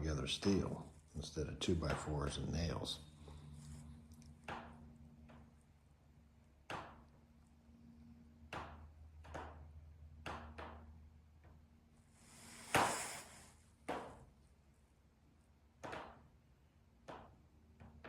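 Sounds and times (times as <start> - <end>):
faint steady hum: 0.0 - 15.7.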